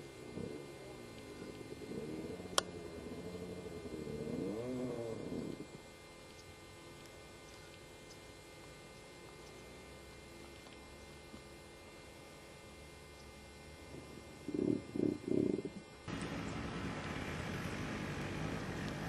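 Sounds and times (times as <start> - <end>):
faint electrical hum: 0.0 - 19.0
low hiss: 0.0 - 19.0.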